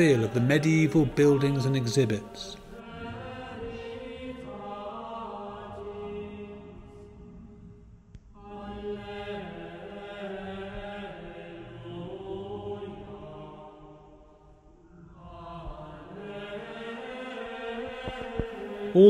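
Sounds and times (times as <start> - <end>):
slow sung chant: 0.0 - 19.0.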